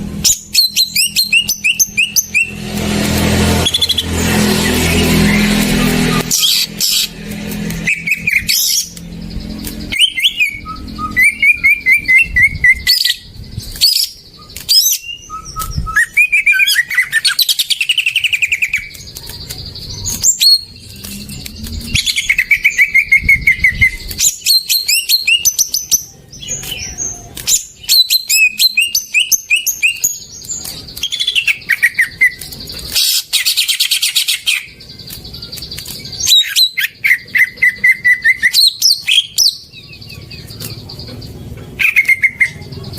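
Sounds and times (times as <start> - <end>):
bird chattering and trilling: 0.1 - 42.9.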